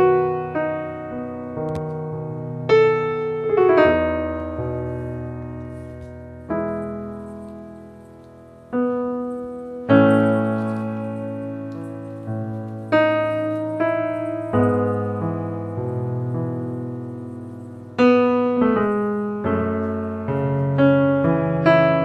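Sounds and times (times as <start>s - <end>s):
slow piano chords: 0.0s - 22.0s.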